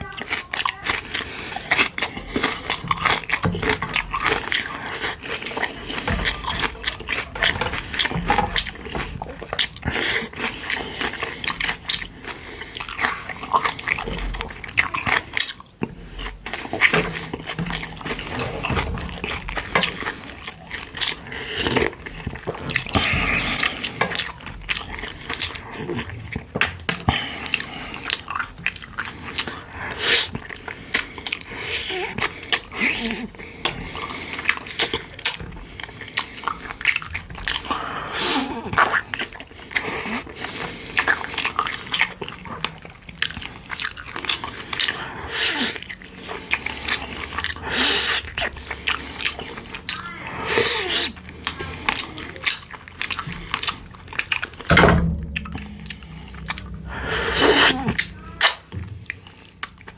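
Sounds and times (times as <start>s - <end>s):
mouth clicks and slurps: 0.0s - 59.9s
wet chewing and biting: 0.0s - 59.9s.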